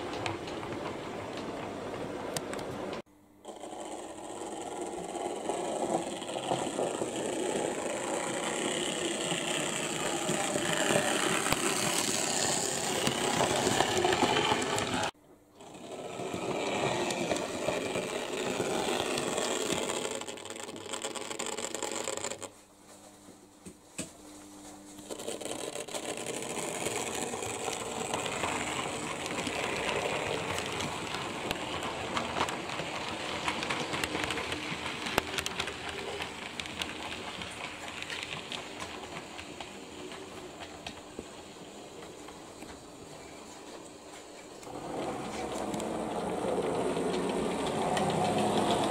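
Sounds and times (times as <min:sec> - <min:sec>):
model trains rattling on track: 0:03.5 - 0:22.5, 0:25.1 - 0:42.6, 0:44.6 - 0:48.9.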